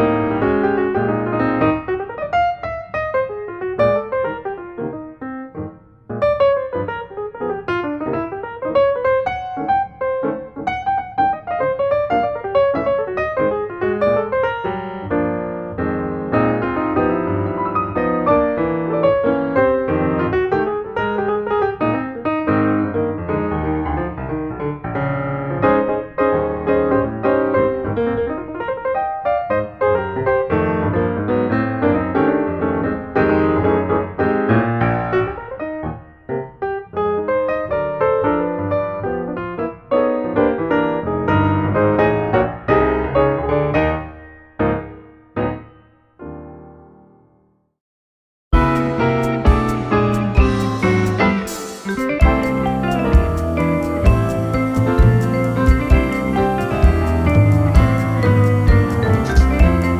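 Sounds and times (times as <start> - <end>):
piano music: 0.0 - 47.6, 48.5 - 59.9.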